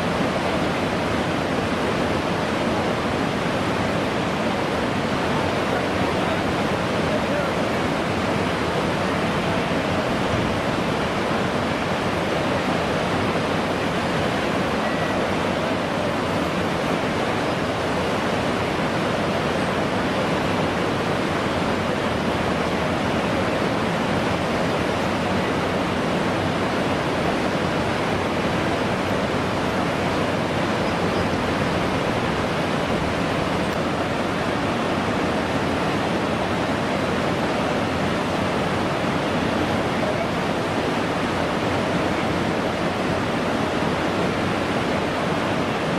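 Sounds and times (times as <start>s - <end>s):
whitewater rapids roaring: 0.0s - 45.9s.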